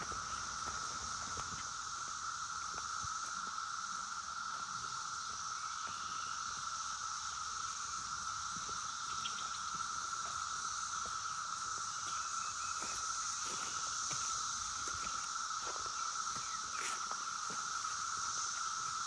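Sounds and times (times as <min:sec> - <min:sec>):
cicadas humming: 0:00.0 - 0:19.0
high steady cicada drone: 0:00.0 - 0:19.0.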